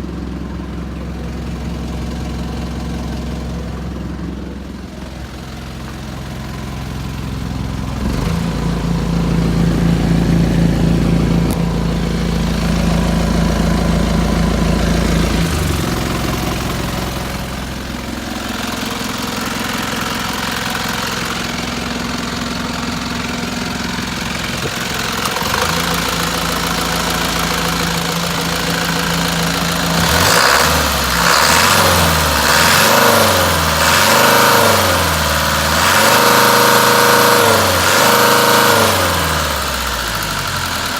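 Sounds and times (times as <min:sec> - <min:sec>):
truck engine revving: 0:07.9 - 0:40.9.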